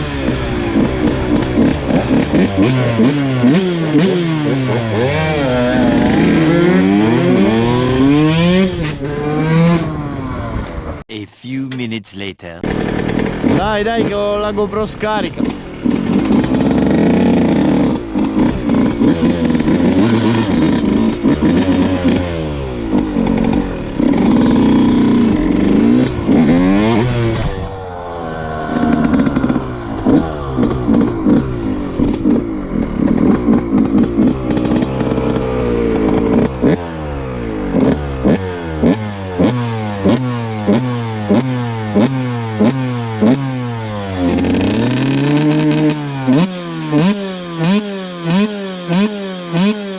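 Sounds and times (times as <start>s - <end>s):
dirt bike engine revving: 0.0s - 10.6s, 12.6s - 14.6s, 15.2s - 49.9s.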